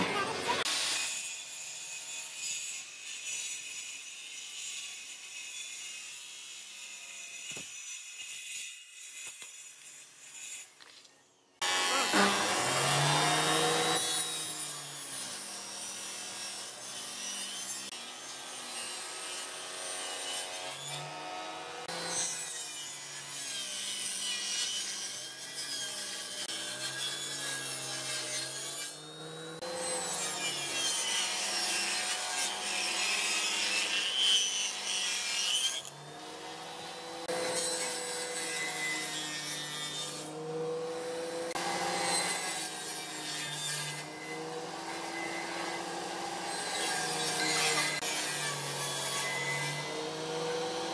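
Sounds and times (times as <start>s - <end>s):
table saw cutting wood: 0.0s - 50.9s.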